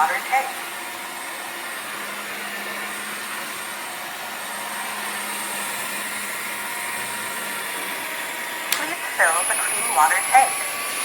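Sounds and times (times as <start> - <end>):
vacuum mop motor hum: 0.0 - 11.0.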